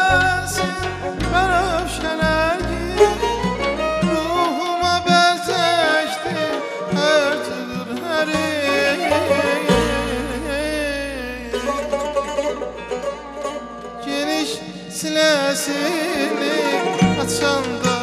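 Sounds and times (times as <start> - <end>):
man singing ornamented melody: 0.0 - 12.5, 13.9 - 18.0
sustained string tones: 0.0 - 18.0.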